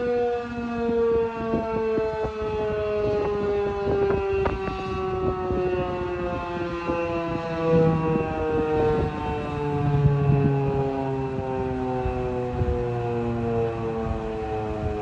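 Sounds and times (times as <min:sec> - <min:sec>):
warning siren wailing: 0:00.0 - 0:15.0
wind noise on microphone: 0:00.0 - 0:15.0.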